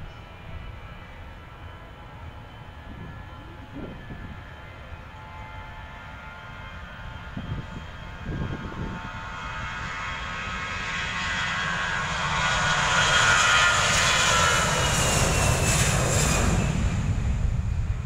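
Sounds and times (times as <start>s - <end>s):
jet engines at high power: 0.0s - 18.0s.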